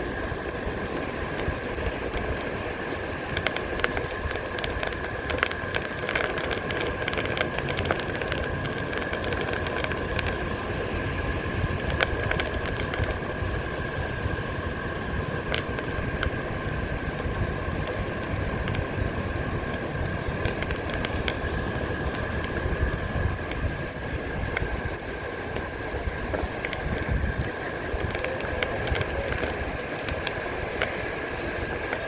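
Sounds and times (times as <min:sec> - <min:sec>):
electric motor whine: 0:00.0 - 0:32.0
wind rumbling on microphone: 0:00.0 - 0:32.0.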